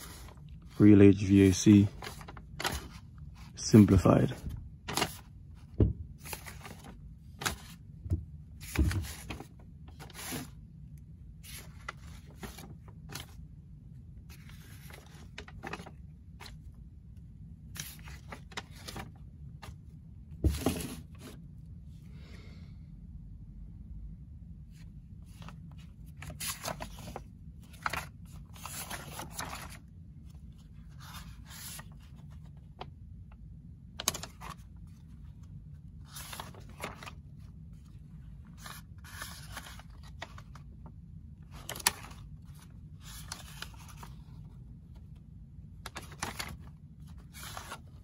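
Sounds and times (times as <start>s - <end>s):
paper pages rustling: 0.0s - 7.9s, 8.5s - 10.6s, 11.4s - 13.5s, 14.2s - 16.8s, 17.6s - 21.4s, 24.7s - 33.0s, 33.9s - 48.0s.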